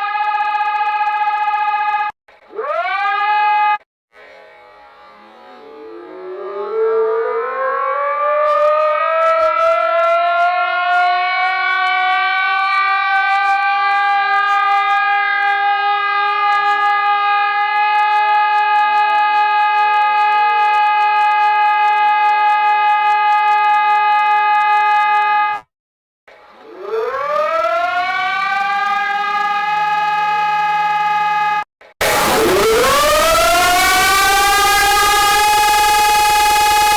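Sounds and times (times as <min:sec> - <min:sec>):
emergency siren winding up: 0:00.0 - 0:03.8, 0:06.4 - 0:25.5, 0:26.6 - 0:36.9.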